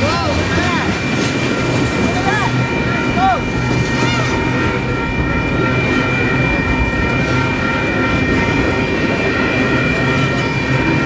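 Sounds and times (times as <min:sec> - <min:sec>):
steady high tones: 0:00.0 - 0:11.0
train wheels rumbling on rail: 0:00.0 - 0:11.0.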